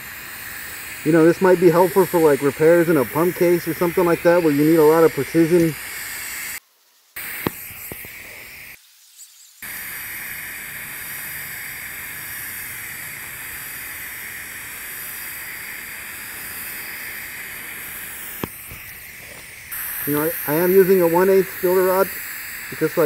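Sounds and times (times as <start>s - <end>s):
welding arc hissing: 0.0s - 6.6s, 7.2s - 8.8s, 9.6s - 23.0s.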